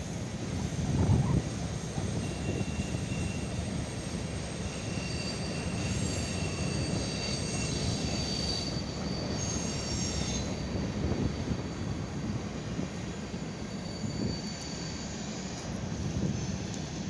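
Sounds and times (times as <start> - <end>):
train wheels rumbling on rail: 0.0 - 17.0
high wheel squeals: 1.8 - 12.0, 12.8 - 17.0.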